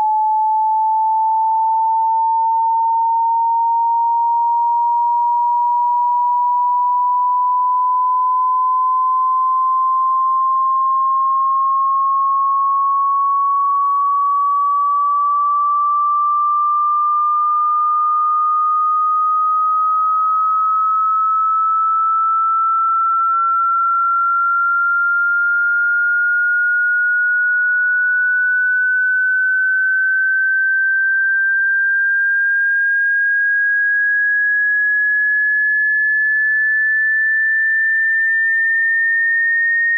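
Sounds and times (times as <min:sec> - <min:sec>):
rising sine wave tone: 0:00.0 - 0:39.9.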